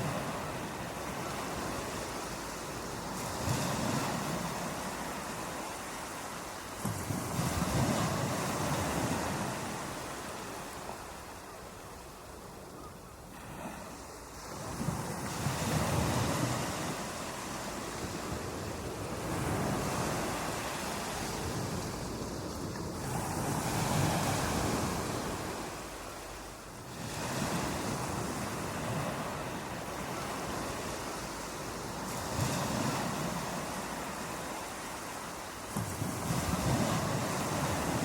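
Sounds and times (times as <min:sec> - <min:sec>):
ocean waves breaking on beach: 0:00.0 - 0:38.0.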